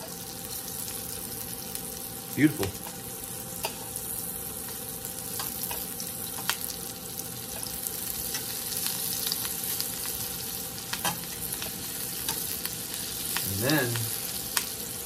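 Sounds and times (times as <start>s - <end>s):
mushrooms sizzling in butter: 0.0s - 15.0s.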